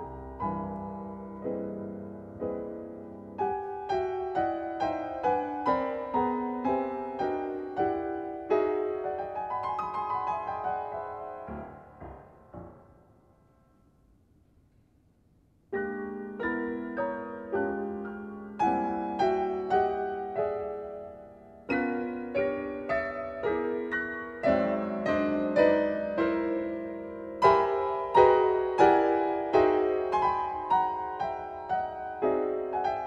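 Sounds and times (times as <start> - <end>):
piano chords: 0.0 - 14.4, 15.5 - 33.0.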